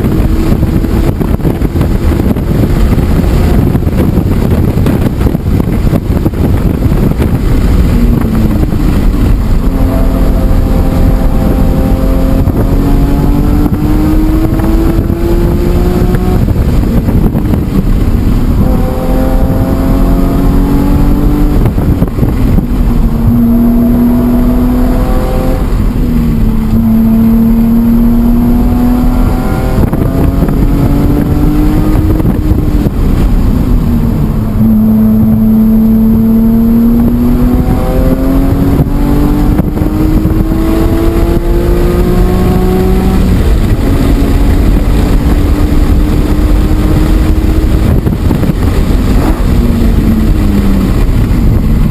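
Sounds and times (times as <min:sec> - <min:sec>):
car engine revving on track: 0:00.0 - 0:51.9
road noise: 0:00.0 - 0:51.9
wind noise: 0:00.0 - 0:51.9.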